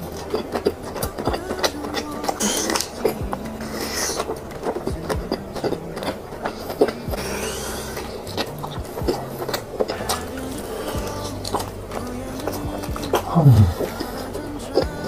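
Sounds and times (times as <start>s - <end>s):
wet mouth clicks: 0.0s - 14.2s
chewing crisp food: 0.0s - 15.0s.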